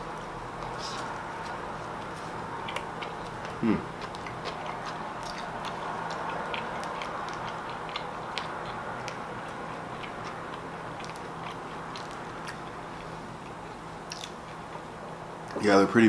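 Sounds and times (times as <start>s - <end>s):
person chewing food: 0.0s - 15.6s
room hiss and low hum: 0.0s - 16.0s.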